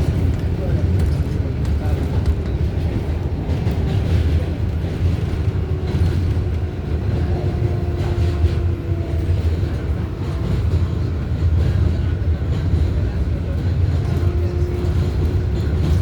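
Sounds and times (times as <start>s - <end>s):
subway car rumbling on rails: 0.0s - 16.0s.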